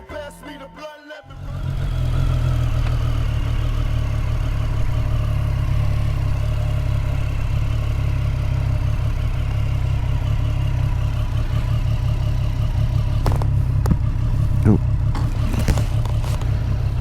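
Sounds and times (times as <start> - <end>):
motorcycle engine running: 1.4 - 17.0.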